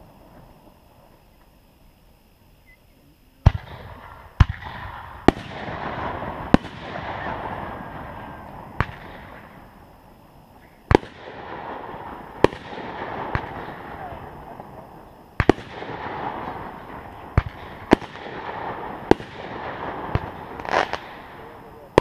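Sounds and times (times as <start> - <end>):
fireworks banging: 3.4 - 22.0.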